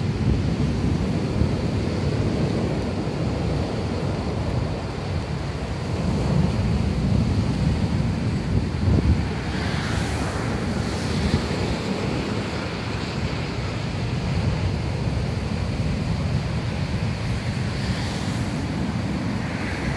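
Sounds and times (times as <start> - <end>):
waves breaking on beach: 0.0 - 19.9
wind buffeting microphone: 0.0 - 19.9.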